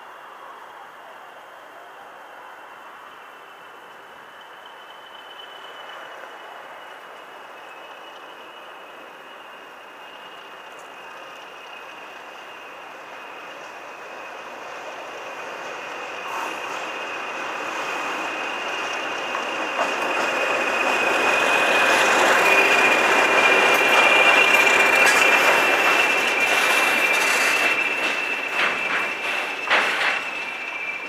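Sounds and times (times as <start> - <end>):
high steady whistle: 0.0 - 31.0
diesel locomotives passing: 2.2 - 31.0.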